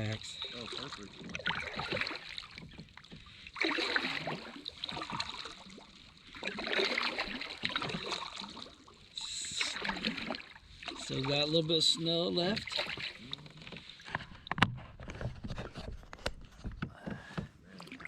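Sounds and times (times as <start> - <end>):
kayak paddle splashing: 0.0 - 18.0.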